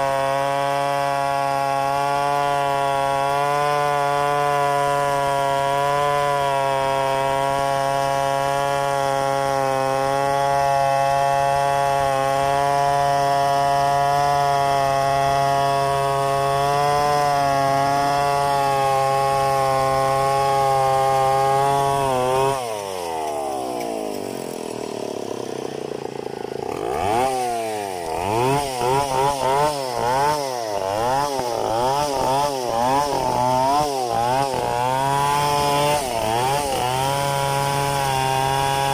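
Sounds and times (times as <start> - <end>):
chainsaw cutting log: 0.0 - 38.9
chainsaw revving: 0.0 - 38.9.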